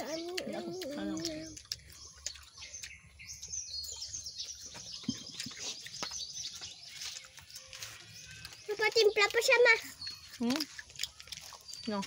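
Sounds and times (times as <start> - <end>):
birds chirping: 0.0 - 12.0
crunching and chewing raw vegetable: 0.0 - 12.0.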